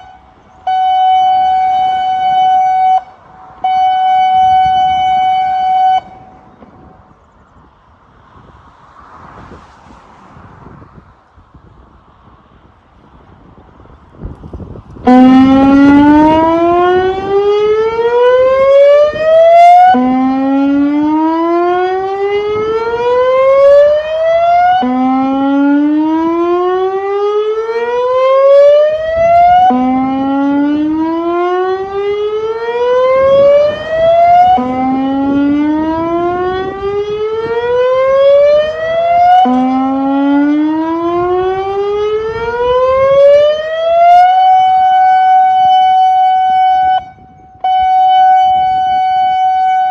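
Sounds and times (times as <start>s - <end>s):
warning siren rising and falling: 0.0s - 6.5s, 14.9s - 49.9s.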